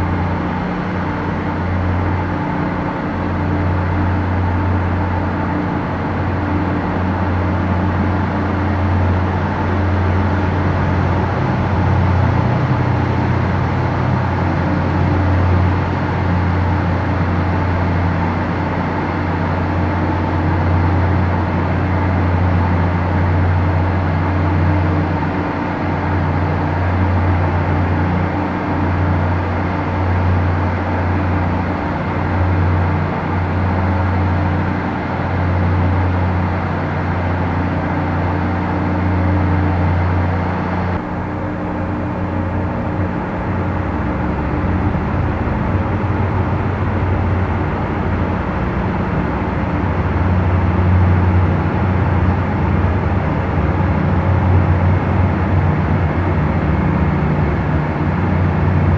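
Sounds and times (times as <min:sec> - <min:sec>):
low mechanical drone: 0:00.0 - 0:58.9.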